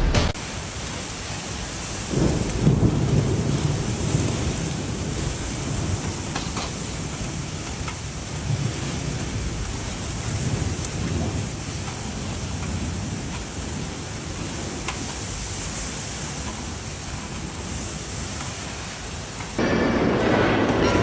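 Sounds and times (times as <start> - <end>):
rain falling: 0.0 - 20.9
thunder rumbling: 0.0 - 21.0.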